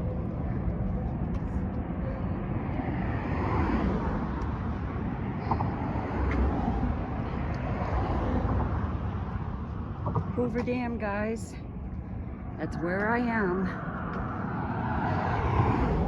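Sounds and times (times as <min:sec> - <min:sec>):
road traffic rushing by: 0:00.0 - 0:16.0.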